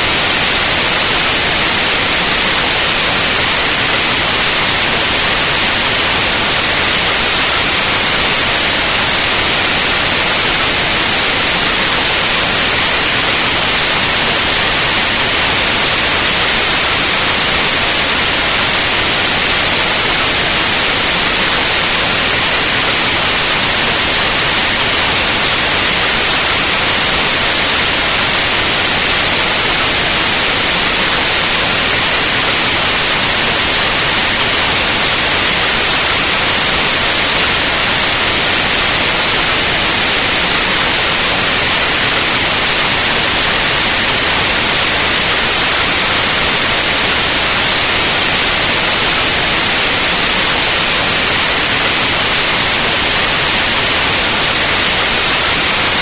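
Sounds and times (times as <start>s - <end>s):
loud steady white noise: 0.0s - 56.0s.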